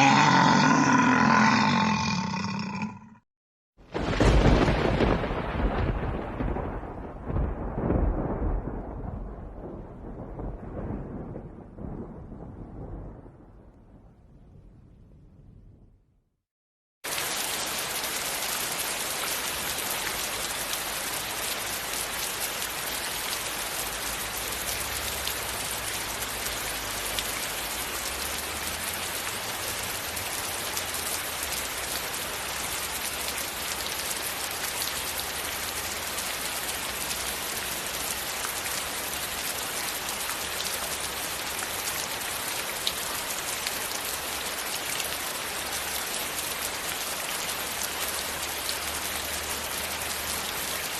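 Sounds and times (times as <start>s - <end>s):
heavy rain: 0.0s - 3.1s, 3.8s - 13.5s, 17.0s - 50.9s.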